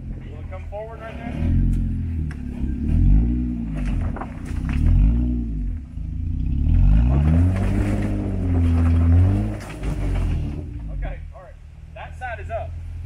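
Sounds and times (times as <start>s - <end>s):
truck engine revving: 0.0s - 11.1s.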